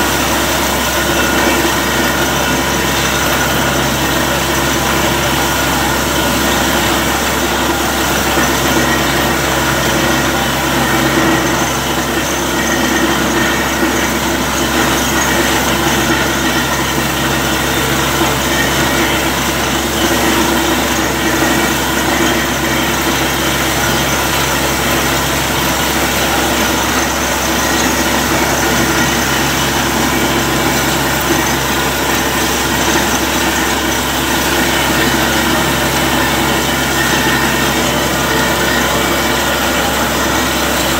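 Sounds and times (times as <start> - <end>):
drilling rig engine drone: 0.0 - 40.9
water splashing from bore: 0.0 - 40.9.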